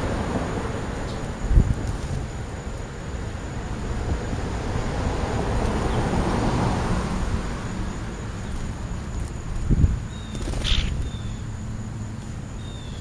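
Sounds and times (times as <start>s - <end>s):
car passing: 2.2s - 12.9s.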